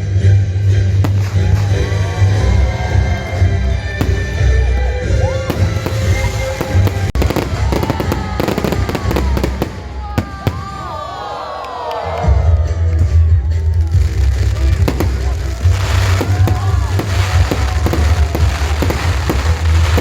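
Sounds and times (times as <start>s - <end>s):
music with heavy bass: 0.0s - 10.2s, 12.2s - 20.0s
fireworks bangs and crackles: 0.8s - 11.2s, 13.4s - 20.0s.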